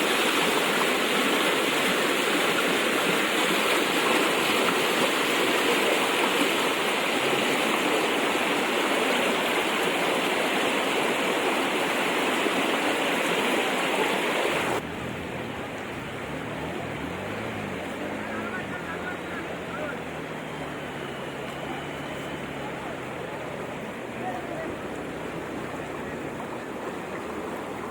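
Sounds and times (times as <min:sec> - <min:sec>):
floodwater rushing: 0:00.0 - 0:27.9.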